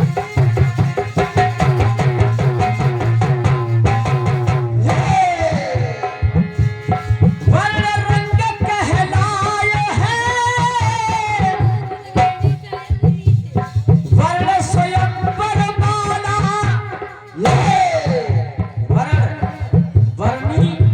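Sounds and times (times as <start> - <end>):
tabla rhythm: 0.0 - 20.9.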